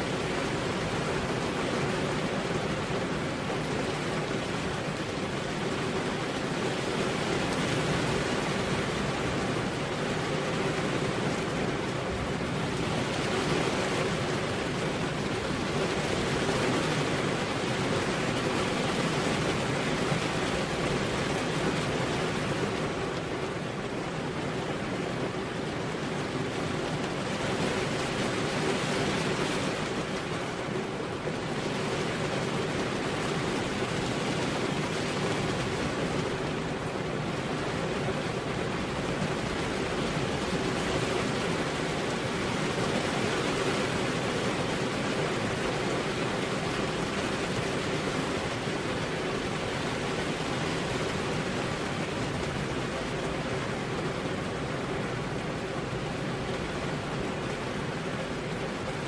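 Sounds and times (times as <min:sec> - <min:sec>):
heavy rain on a road: 0:00.0 - 0:59.0.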